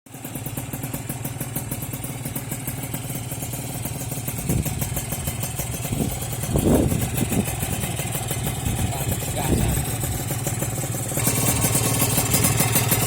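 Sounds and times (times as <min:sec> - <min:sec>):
motorcycle engine idling: 0:00.1 - 0:13.0.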